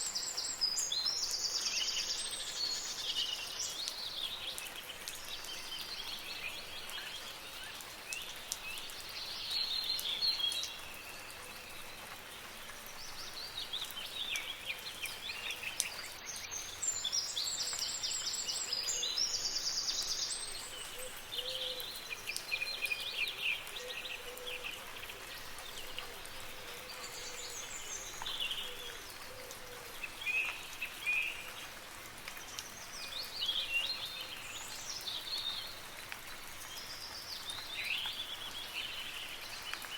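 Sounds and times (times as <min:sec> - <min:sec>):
light rain hiss: 0:00.0 - 0:39.9
songbirds calling and singing: 0:00.0 - 0:39.9.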